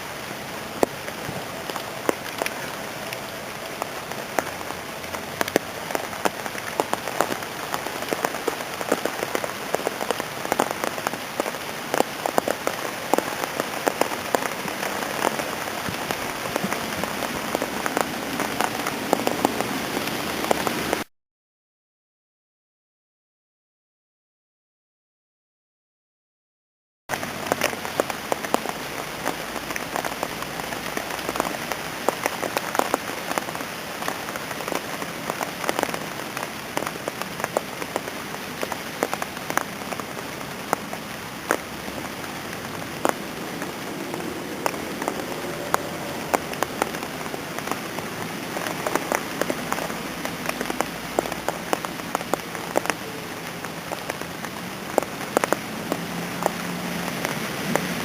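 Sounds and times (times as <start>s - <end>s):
raindrops tapping close by: 0.0s - 21.1s, 27.1s - 58.0s
steady rain falling: 0.0s - 21.1s, 27.1s - 58.0s.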